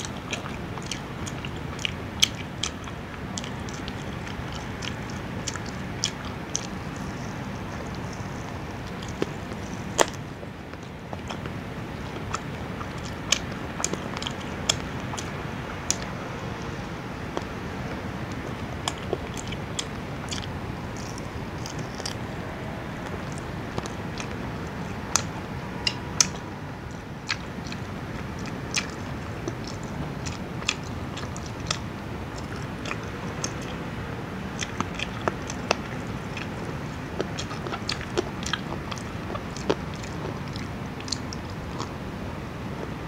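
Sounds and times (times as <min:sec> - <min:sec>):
close chewing and mouth sounds: 0:00.0 - 0:43.0.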